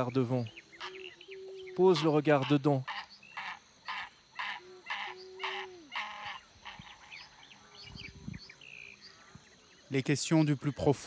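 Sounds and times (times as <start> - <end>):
bird short calls: 0.0 - 9.4.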